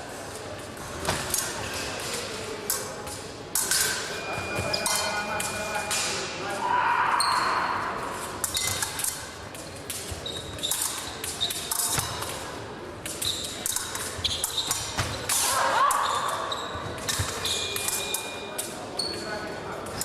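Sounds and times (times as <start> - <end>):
murmur of voices: 0.0 - 20.0
fencing blades clicking and ringing: 0.3 - 6.2, 8.2 - 20.0.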